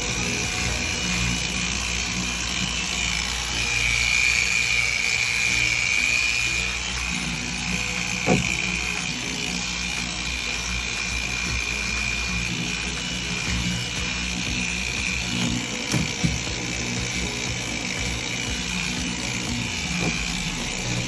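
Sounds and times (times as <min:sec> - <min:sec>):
background music: 0:00.0 - 0:21.0
power tool whining: 0:00.0 - 0:21.0.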